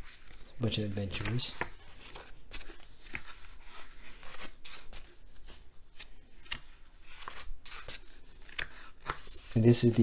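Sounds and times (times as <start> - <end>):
book pages turning: 0.0 - 10.0.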